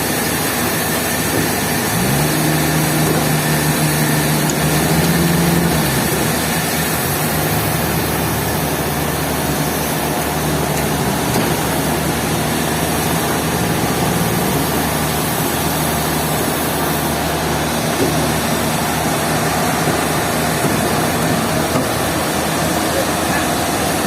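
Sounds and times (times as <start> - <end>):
engine drone: 0.0 - 24.0
sawmill machinery noise: 0.0 - 24.0.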